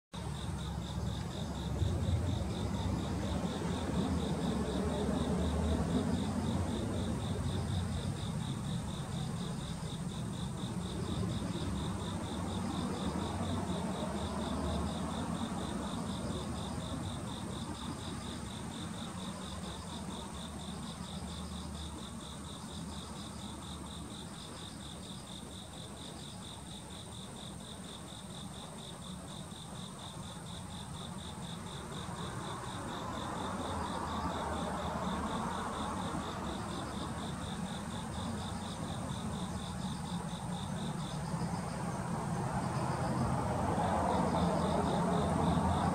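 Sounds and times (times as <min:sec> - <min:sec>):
high insect chirp: 0:00.2 - 0:45.9
insects trilling: 0:00.2 - 0:45.9.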